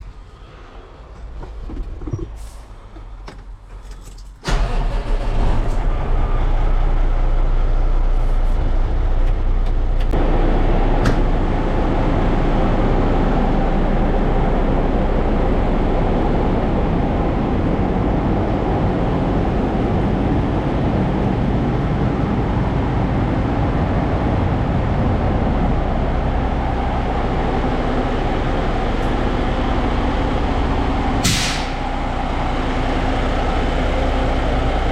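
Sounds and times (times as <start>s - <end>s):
dump truck diesel engine rumbling: 0.0s - 34.9s.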